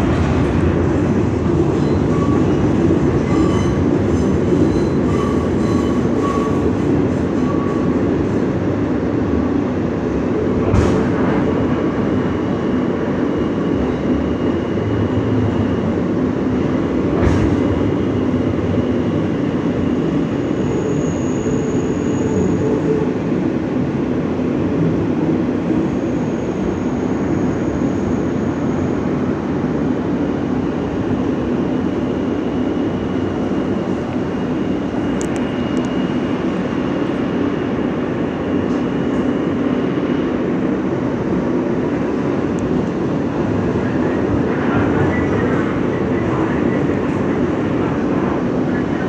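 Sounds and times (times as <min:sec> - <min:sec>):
subway wheels rumbling on rails: 0:00.0 - 0:49.0.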